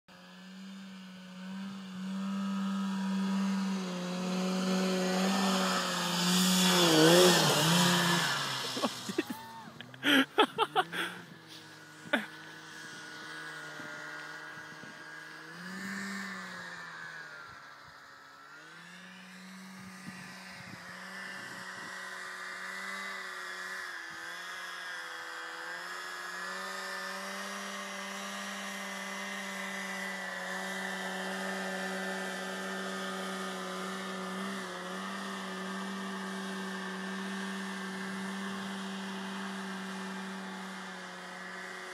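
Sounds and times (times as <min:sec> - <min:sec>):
snowmobile engine running: 0:00.1 - 0:41.9.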